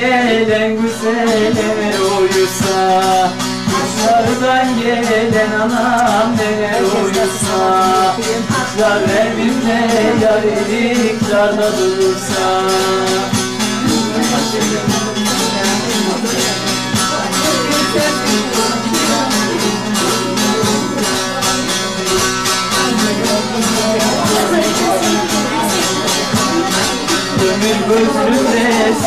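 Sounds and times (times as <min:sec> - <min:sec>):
rapid lute strumming with drone: 0:00.0 - 0:29.0.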